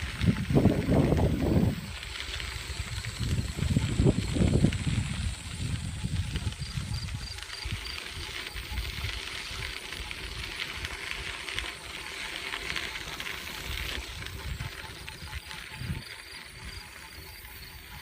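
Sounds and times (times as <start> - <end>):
wind buffeting microphone: 0.0 - 11.3, 13.5 - 17.2
bicycle riding on trail: 0.0 - 18.0.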